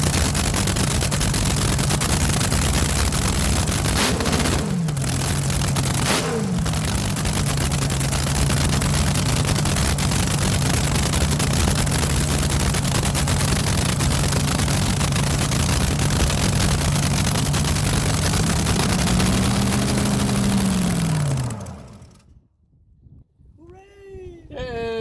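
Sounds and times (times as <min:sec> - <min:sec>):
engine running loudly: 0:00.0 - 0:22.3.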